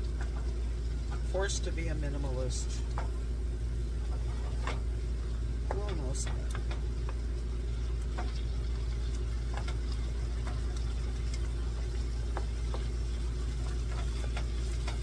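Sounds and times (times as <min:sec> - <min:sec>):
low mechanical hum: 0:00.0 - 0:15.0
meat sizzling in a frying pan: 0:02.1 - 0:15.0.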